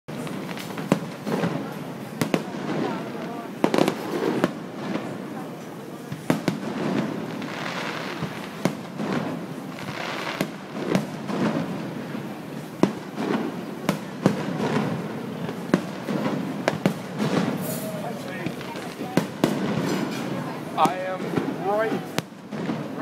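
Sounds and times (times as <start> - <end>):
fireworks bursting with sharp bangs: 0.1 - 23.0.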